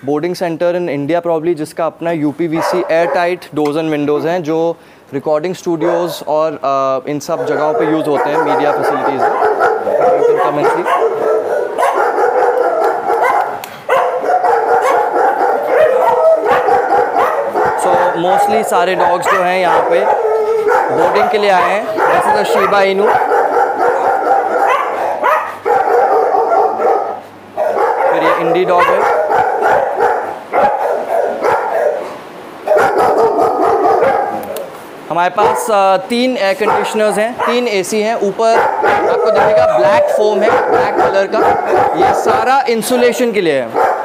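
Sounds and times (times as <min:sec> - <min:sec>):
many dogs barking and yipping: 0:02.5 - 0:03.4, 0:05.7 - 0:06.4, 0:07.2 - 0:44.0.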